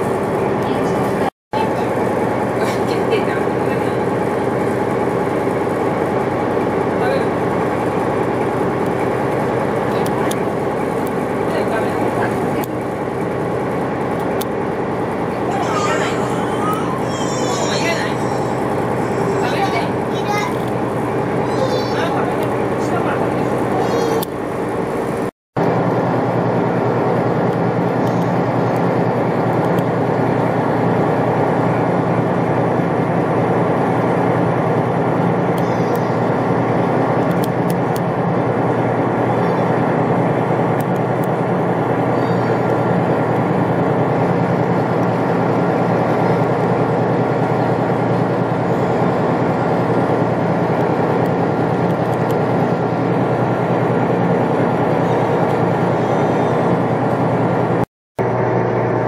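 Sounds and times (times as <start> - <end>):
wind: 0.0 - 58.6
boat engine drone: 0.0 - 59.0.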